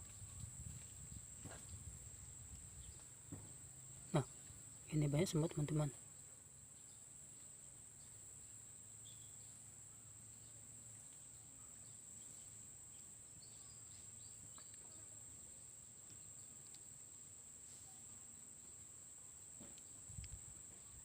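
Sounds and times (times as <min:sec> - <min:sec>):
faint chirps: 0:00.0 - 0:21.0
insect chorus: 0:00.0 - 0:21.0.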